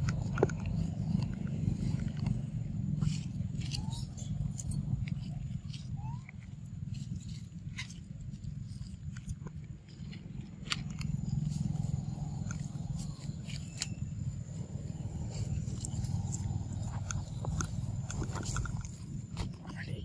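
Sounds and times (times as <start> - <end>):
monkey chewing wetly: 0.0 - 19.8
steady low rumble: 0.0 - 20.0.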